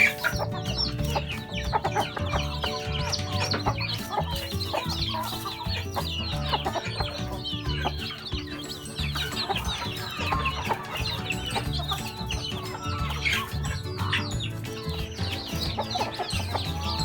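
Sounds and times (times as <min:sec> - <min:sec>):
chickens clucking: 0:00.0 - 0:17.0
rapid high chick calls: 0:00.0 - 0:17.0.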